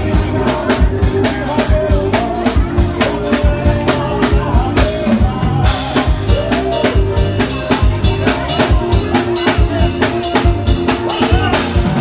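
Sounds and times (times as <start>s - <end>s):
drum-kit beat: 0.0s - 12.0s
loud forro music: 0.0s - 12.0s
sustained melody line: 0.0s - 12.0s.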